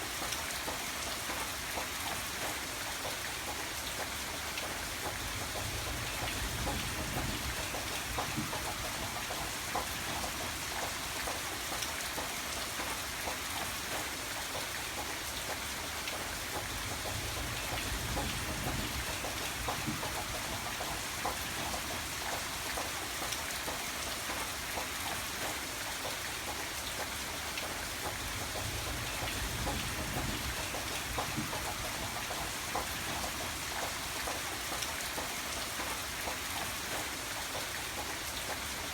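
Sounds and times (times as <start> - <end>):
rain falling on a surface: 0.0 - 38.9.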